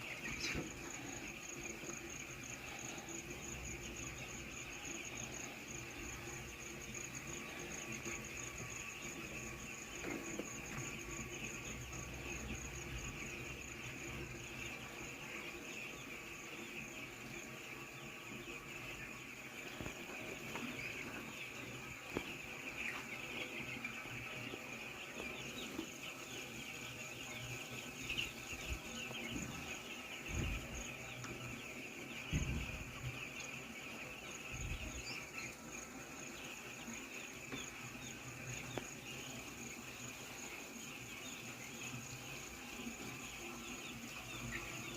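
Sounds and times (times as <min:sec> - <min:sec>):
chicks peeping: 0:00.0 - 0:44.9.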